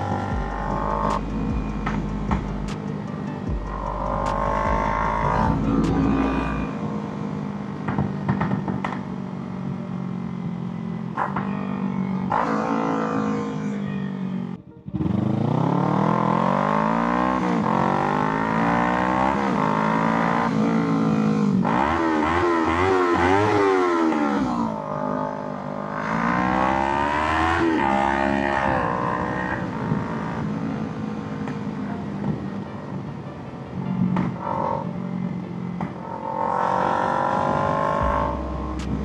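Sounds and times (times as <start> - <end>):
motorcycle engine revving: 0.0 - 31.8, 34.4 - 39.0.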